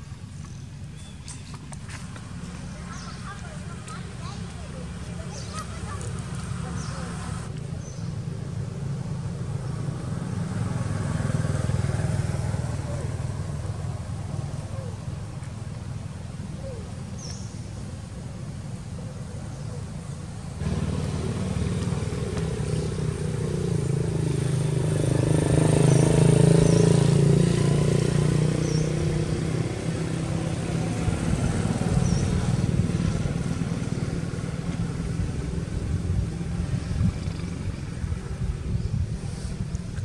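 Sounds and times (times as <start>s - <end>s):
vehicle engine passing by: 1.0s - 17.5s, 19.3s - 40.0s.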